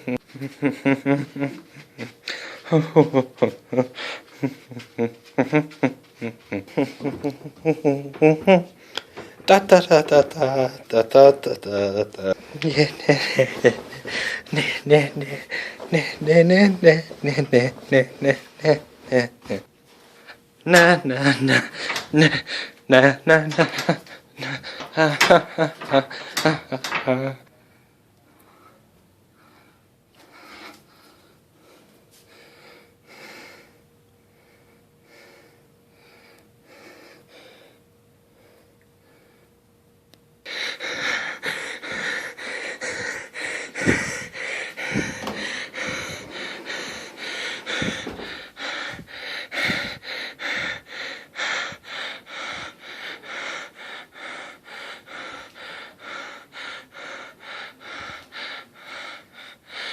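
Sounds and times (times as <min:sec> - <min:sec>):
man breathing heavily: 0:00.0 - 0:39.6, 0:40.4 - 0:59.9.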